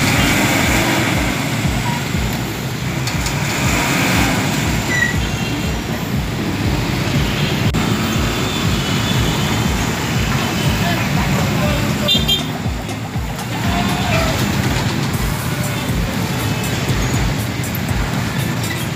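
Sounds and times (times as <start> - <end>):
heavy vehicle engine rumbling: 0.0 - 18.9
road traffic: 0.0 - 18.9.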